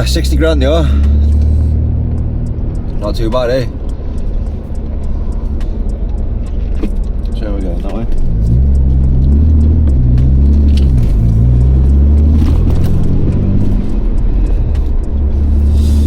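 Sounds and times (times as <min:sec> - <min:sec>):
car engine hum: 0:00.0 - 0:16.0
road noise: 0:00.0 - 0:16.0.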